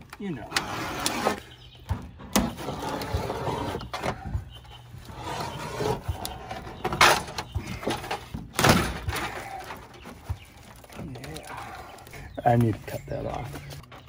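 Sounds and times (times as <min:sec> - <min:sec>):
sheet metal crinkling and scraping: 0:00.0 - 0:14.0.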